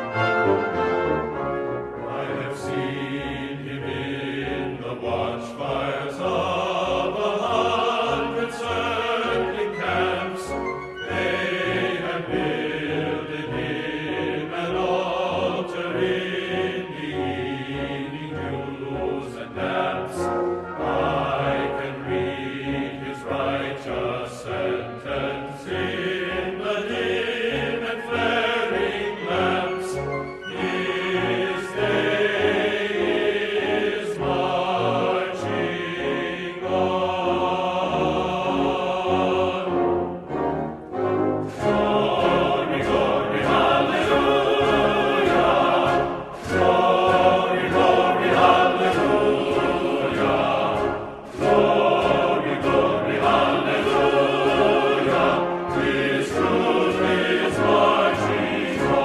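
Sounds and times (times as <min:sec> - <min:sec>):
choral and orchestral music: 0:00.0 - 0:59.0.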